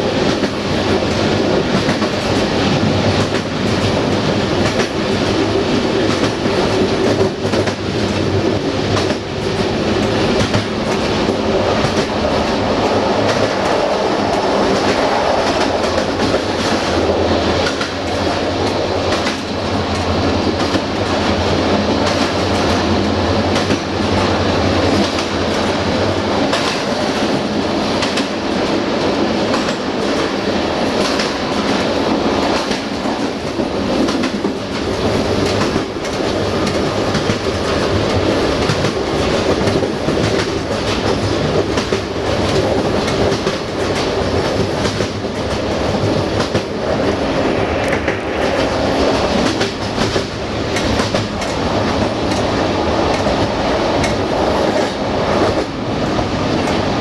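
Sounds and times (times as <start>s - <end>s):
train wheels rumbling on rail: 0.0s - 57.0s
wheels clicking over rail joints: 0.3s - 47.1s, 47.8s - 56.9s.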